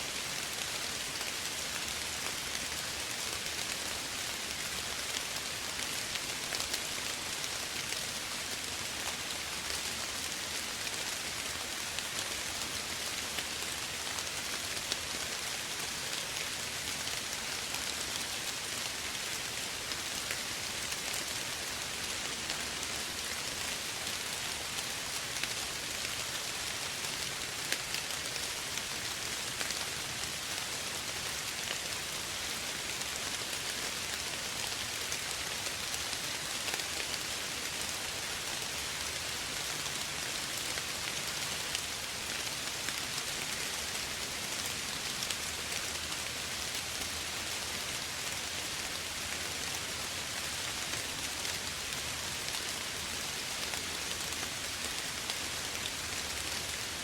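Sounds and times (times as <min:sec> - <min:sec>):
soft rain pattering: 0:00.0 - 0:57.0.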